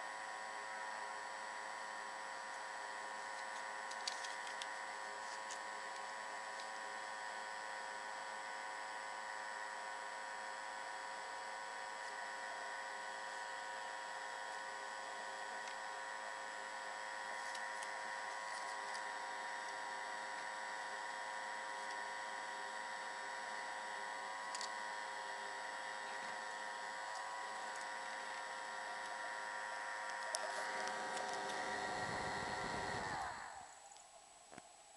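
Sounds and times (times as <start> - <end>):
electric motor fan whine: 0.0 - 34.9.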